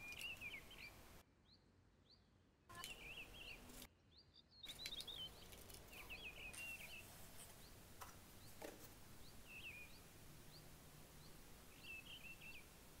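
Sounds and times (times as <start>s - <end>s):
faint birdsong chirping: 0.0s - 13.0s.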